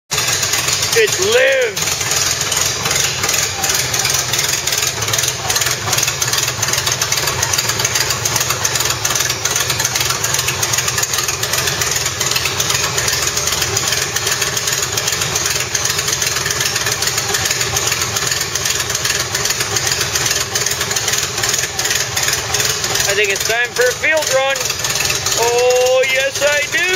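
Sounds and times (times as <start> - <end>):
car engine idling: 0.1 - 26.9.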